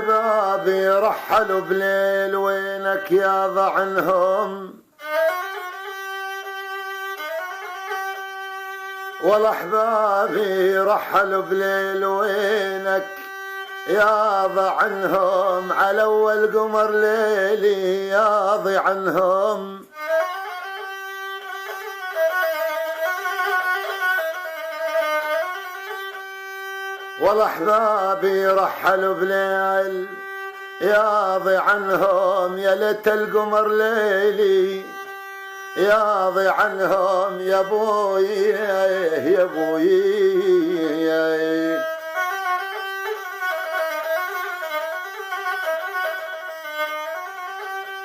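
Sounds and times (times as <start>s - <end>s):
violin melody: 0.0s - 48.0s.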